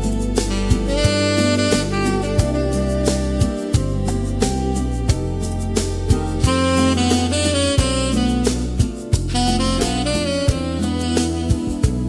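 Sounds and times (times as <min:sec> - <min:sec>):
saxophone melody: 0:00.0 - 0:12.0
steady bass: 0:00.0 - 0:12.0.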